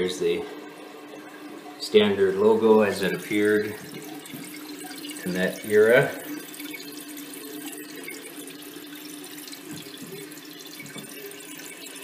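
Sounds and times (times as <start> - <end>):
faint steady hum: 0.0 - 12.0
water running into toilet tank: 0.0 - 12.0.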